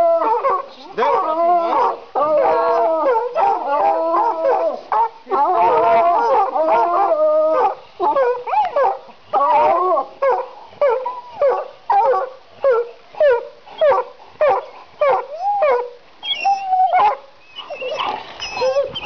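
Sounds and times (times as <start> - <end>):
dogs yelping: 0.0 - 19.0
hounds howling: 0.0 - 19.0.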